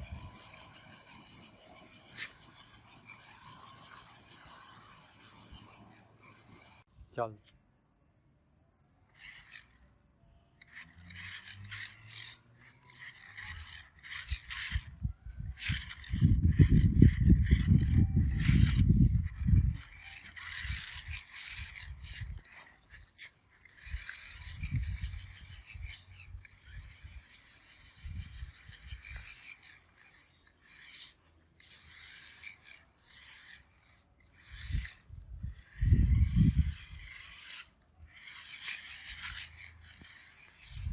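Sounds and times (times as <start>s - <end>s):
toy rock crawler scraping and grinding: 0.0s - 7.6s, 8.9s - 40.9s.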